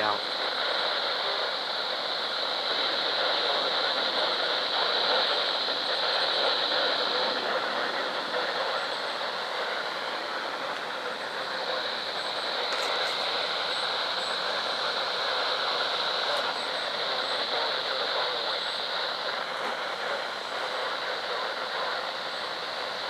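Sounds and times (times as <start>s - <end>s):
radio static hissing: 0.0s - 23.0s.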